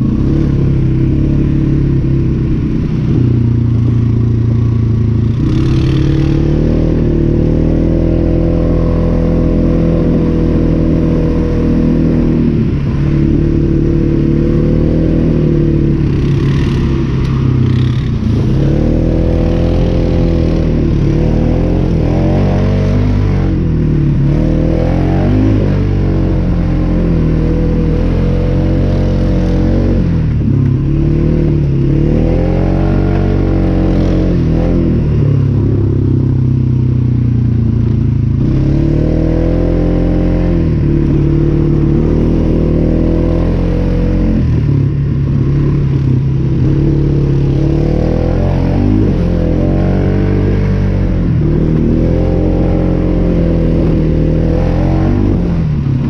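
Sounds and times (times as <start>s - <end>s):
engine revving while riding: 0.0s - 56.0s.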